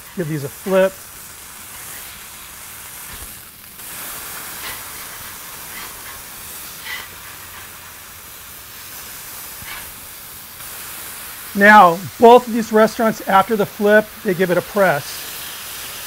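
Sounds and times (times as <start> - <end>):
burgers sizzling on griddle: 0.0 - 16.0.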